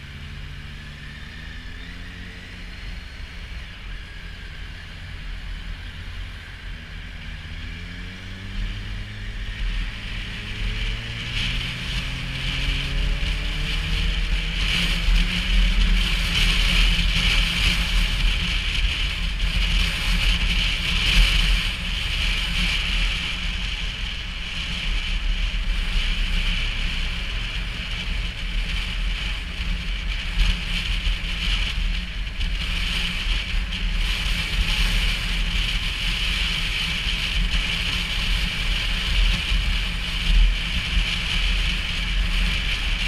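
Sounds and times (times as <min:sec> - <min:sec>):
motorcycle engine running: 0:00.0 - 0:43.0
wind rushing over microphone: 0:00.0 - 0:43.0.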